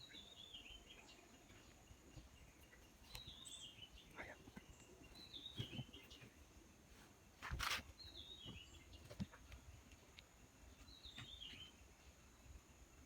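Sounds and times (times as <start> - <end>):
bird song: 0.0 - 13.0.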